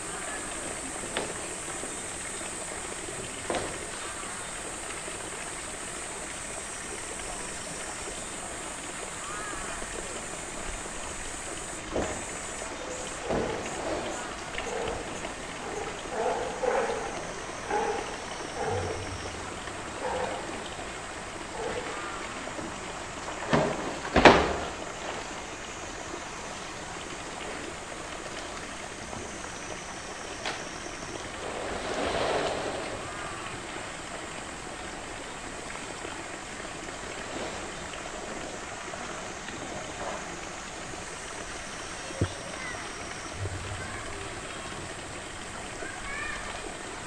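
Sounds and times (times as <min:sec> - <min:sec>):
running water: 0:00.0 - 0:47.0.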